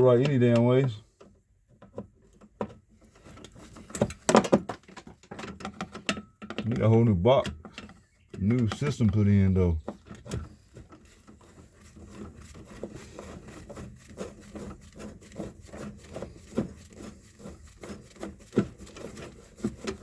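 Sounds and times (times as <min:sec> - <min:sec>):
hands scraping and tapping switch box: 0:00.0 - 0:20.0.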